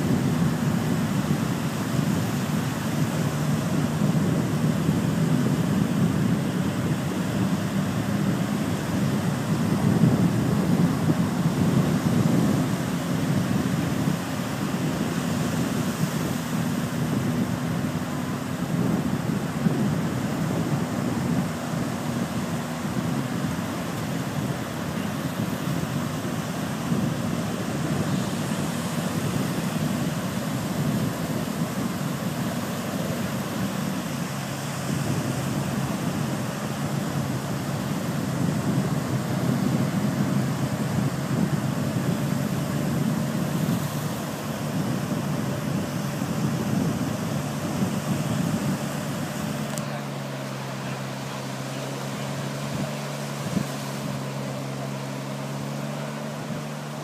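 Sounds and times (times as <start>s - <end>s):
faint engine drone: 0.0s - 57.0s
wind on microphone: 0.0s - 57.0s.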